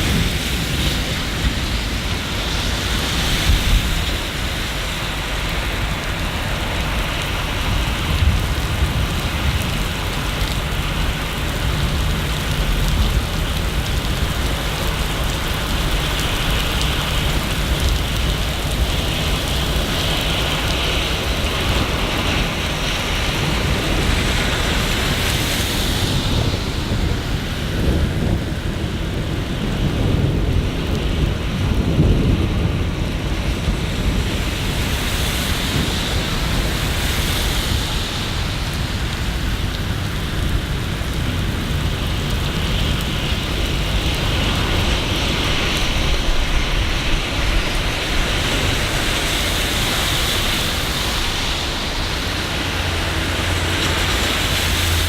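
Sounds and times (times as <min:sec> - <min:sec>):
rain on city surfaces: 0:00.0 - 0:55.0.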